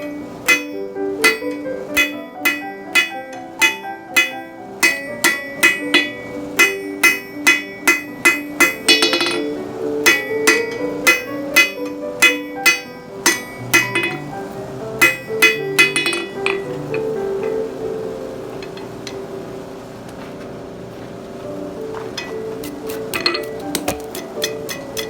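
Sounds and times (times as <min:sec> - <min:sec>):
hammer ringing on anvil: 0:00.0 - 0:17.9, 0:22.2 - 0:25.0
plucked background music: 0:00.0 - 0:19.5, 0:21.4 - 0:25.0.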